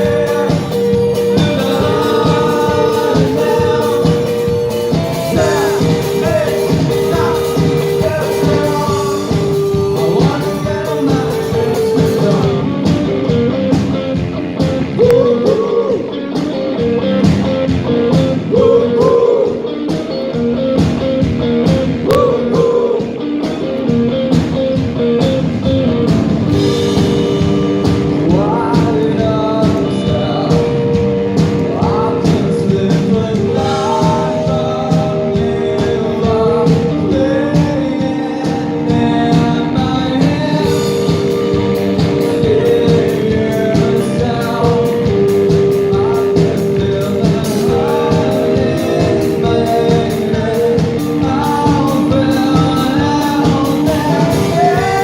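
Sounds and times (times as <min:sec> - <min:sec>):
person singing: 0:00.0 - 0:13.9, 0:14.6 - 0:20.5, 0:21.9 - 0:24.0, 0:26.5 - 0:55.0
drum beat: 0:00.0 - 0:55.0
rock band playing: 0:00.0 - 0:55.0.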